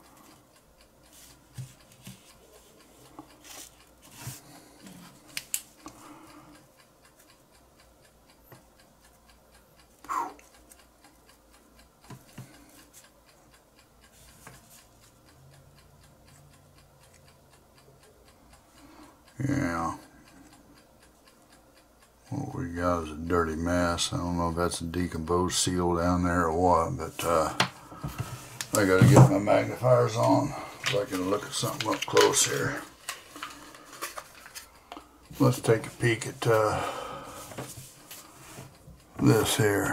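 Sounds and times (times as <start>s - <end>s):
faint steady ticking: 0.0s - 39.9s.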